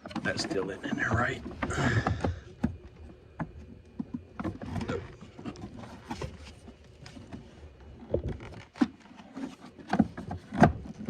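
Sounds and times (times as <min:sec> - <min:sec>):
car parts being handled: 0:00.0 - 0:11.0.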